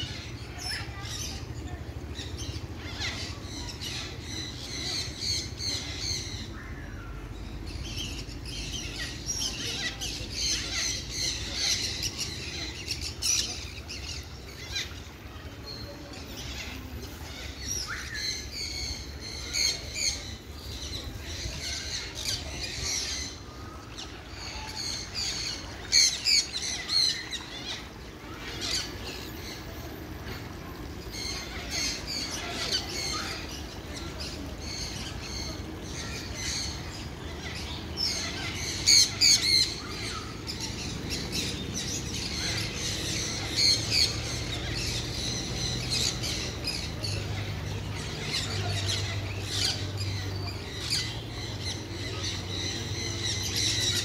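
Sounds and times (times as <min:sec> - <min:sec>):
birds squawking and chirping: 0:00.0 - 0:54.0.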